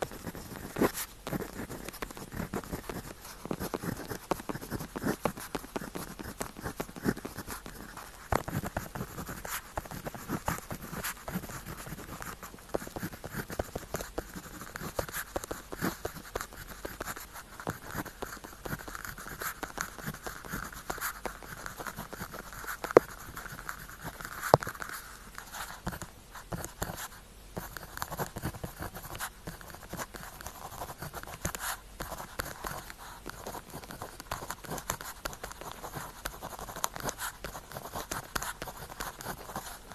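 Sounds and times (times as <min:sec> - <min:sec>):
pen scratching on paper: 0:00.0 - 0:39.9.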